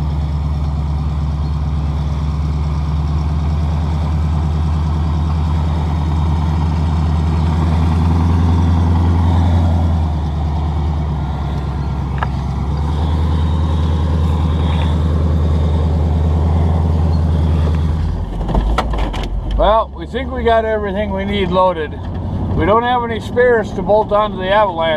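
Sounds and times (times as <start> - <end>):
truck engine running: 0.0 - 24.9.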